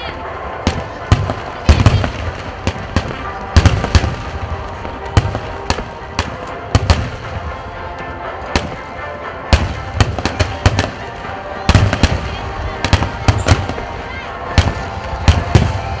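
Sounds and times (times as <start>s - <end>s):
fireworks sharp bangs: 0.4s - 7.8s, 8.4s - 16.0s.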